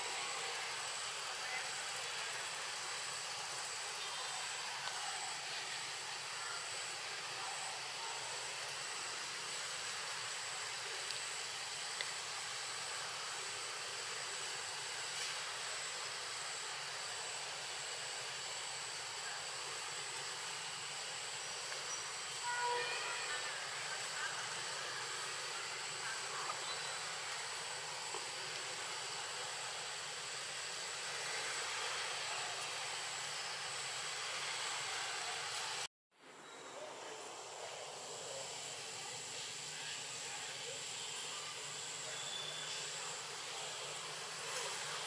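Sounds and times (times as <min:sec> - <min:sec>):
faint high whine: 0:00.0 - 0:45.0
outdoor background hiss: 0:00.0 - 0:45.0.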